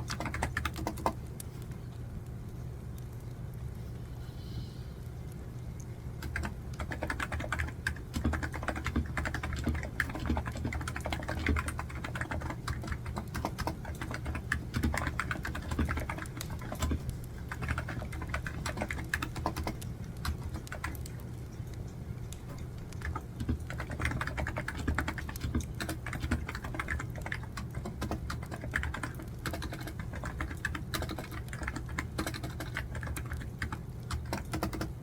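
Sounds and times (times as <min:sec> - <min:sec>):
keyboard typing clicks: 0:00.0 - 0:01.2, 0:06.2 - 0:21.2, 0:22.4 - 0:35.0.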